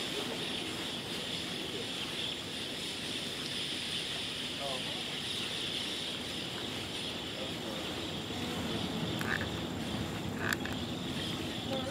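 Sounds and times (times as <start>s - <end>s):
high-pitched insect chorus: 0.0s - 11.9s
wind and surf rumble: 0.0s - 11.9s.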